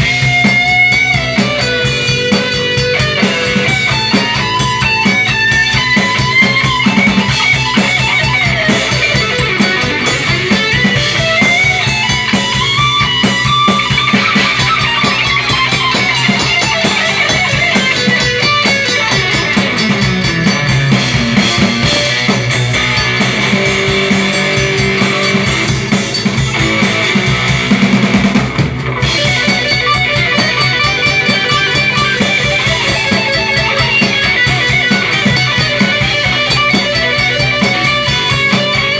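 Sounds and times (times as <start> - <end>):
drum kit: 0.0 - 38.9
guitars: 0.0 - 38.9
melodic lead guitar line: 0.0 - 38.9.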